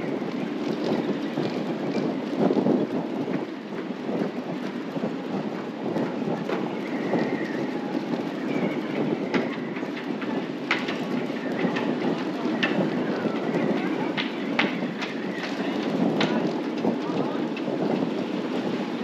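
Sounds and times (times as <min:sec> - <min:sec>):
strong wind blowing: 0:00.0 - 0:19.0.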